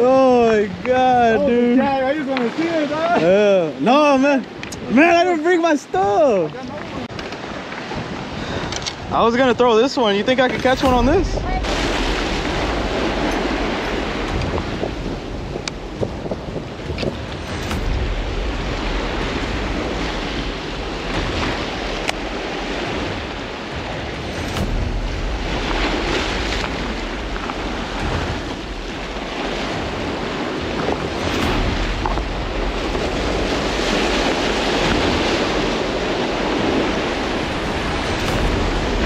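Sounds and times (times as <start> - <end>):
waves washing against rocks: 0.0 - 39.0
wind buffeting microphone: 0.0 - 39.0.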